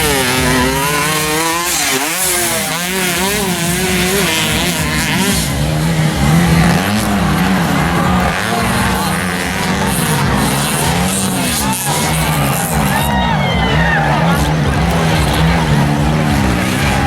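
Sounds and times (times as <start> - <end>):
motorcycle engines revving: 0.0 - 17.0
steady engine note: 0.0 - 17.0.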